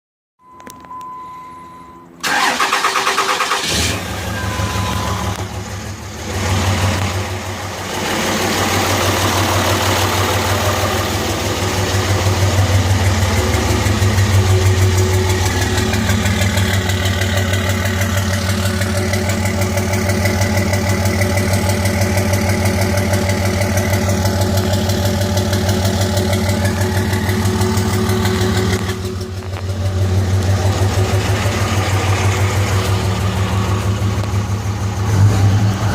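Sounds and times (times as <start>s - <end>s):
diesel engine idling: 1.4s - 35.9s.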